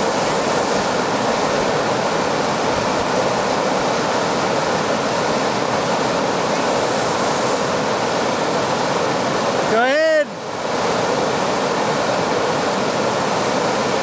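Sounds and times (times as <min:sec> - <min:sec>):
water rushing over rock: 0:00.0 - 0:14.0.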